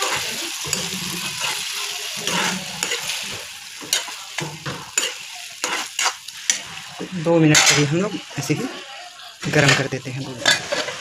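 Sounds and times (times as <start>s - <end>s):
metal spatula scraping pan: 0.0s - 11.0s
noodles sizzling in hot oil: 0.0s - 11.0s.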